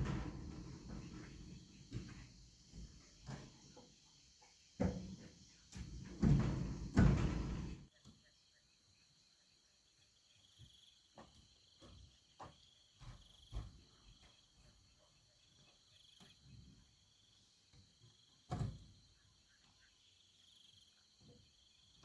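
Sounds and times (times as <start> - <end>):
high insect chirr: 0.1 - 22.0.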